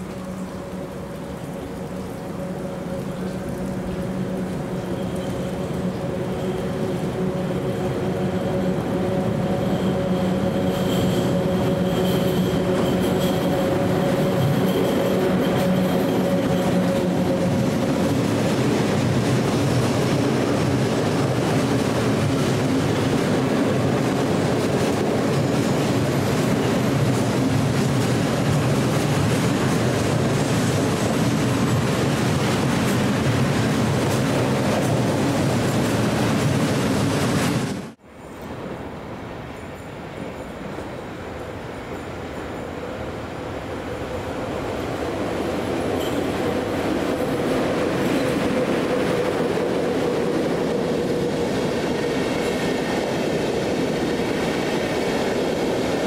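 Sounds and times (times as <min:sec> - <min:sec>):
freight wagon wheels rumbling on rails: 0:00.0 - 0:38.0, 0:44.5 - 0:56.0
electric locomotive humming: 0:00.0 - 0:56.0.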